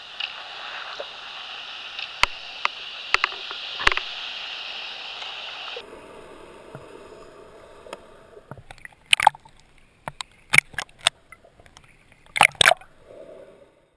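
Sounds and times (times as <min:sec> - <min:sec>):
waves splashing against camera: 0:00.0 - 0:13.2
muffled water noise: 0:00.0 - 0:13.9.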